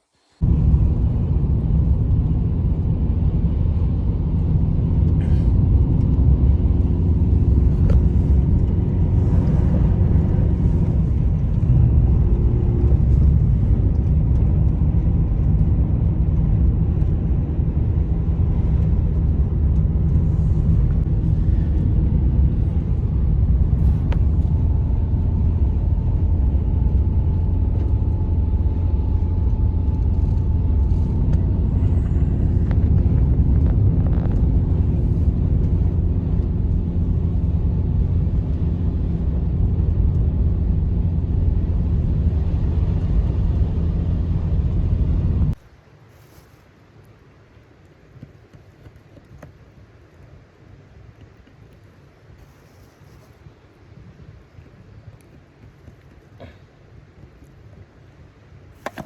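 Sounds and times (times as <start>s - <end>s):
blizzard wind rumble: 0.0s - 59.0s
faint wind howl: 0.0s - 59.0s.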